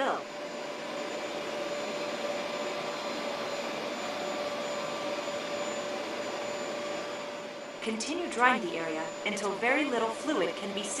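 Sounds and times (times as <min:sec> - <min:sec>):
carpet cleaner suction motor: 0:00.3 - 0:11.0.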